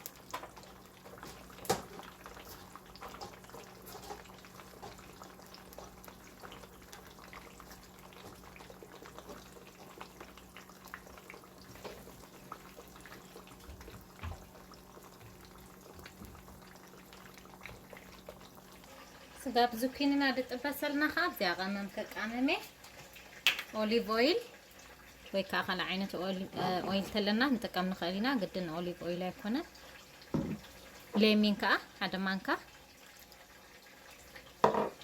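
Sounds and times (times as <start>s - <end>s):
soft bubbling hiss: 0.0s - 35.0s.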